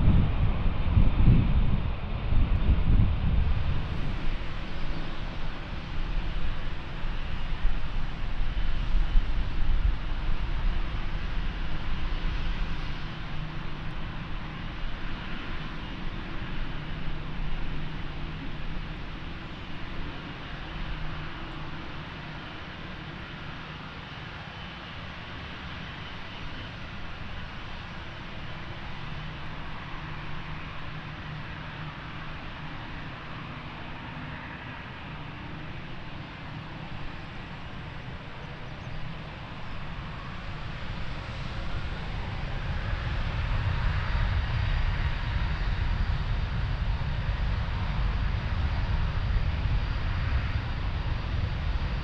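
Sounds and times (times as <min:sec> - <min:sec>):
jet engines at takeoff: 0:00.0 - 0:52.0.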